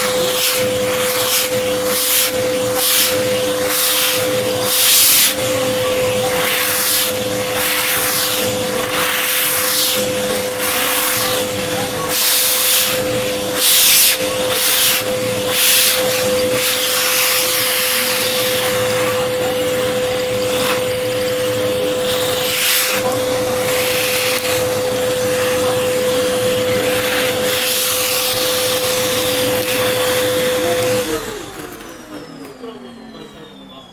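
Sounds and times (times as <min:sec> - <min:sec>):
vacuum cleaner motor whine: 0:00.0 - 0:33.9.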